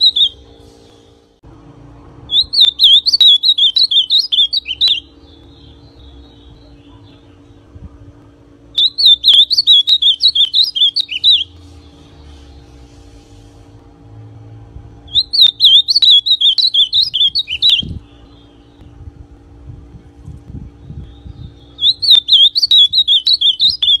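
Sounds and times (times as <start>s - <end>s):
bird singing warbled song: 0.0s - 1.2s, 2.3s - 8.0s, 8.7s - 12.9s, 15.0s - 19.2s, 20.0s - 24.0s.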